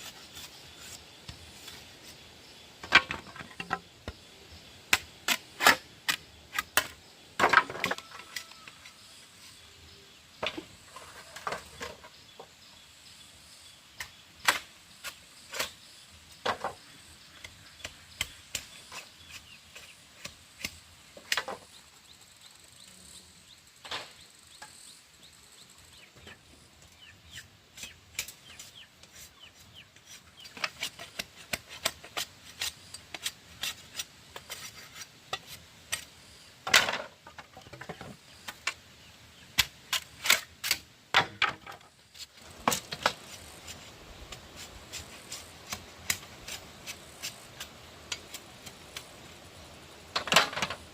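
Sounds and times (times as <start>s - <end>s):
faint steady hiss: 0.0s - 50.9s.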